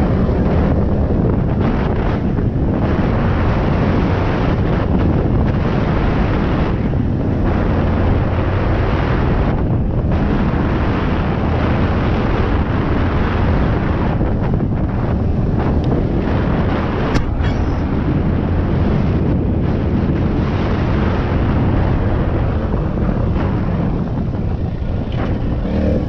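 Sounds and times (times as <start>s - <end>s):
dirt bike engine running: 0.0s - 26.0s
wind buffeting microphone: 0.0s - 26.0s.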